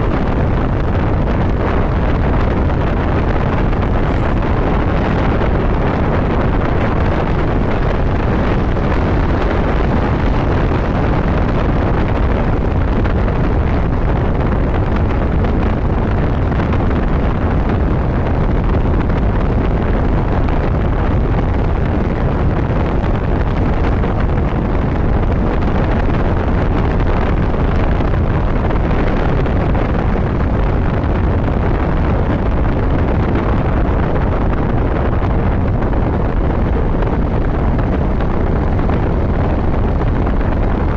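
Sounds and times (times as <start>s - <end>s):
motorcycle engine rumble: 0.0s - 40.9s
road noise: 0.0s - 40.9s
wind rushing over microphone: 0.0s - 40.9s.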